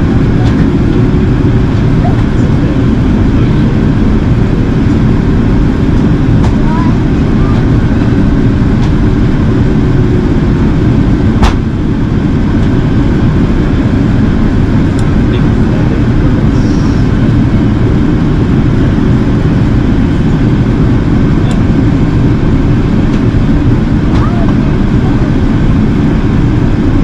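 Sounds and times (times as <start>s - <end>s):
airflow and engine rush in cabin: 0.0s - 27.0s.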